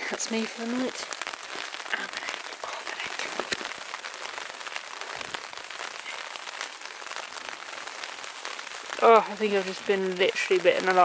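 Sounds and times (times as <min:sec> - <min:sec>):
rain pattering on a tarp: 0:00.0 - 0:11.0.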